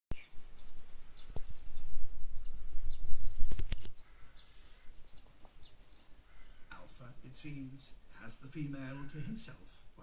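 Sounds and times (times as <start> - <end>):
bird song through a speaker: 0.1 - 10.0.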